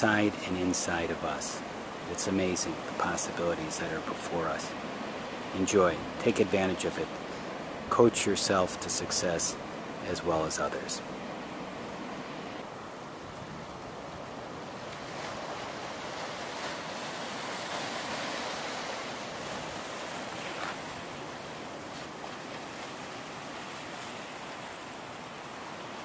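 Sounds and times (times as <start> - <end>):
breaking ocean waves: 0.0 - 26.0.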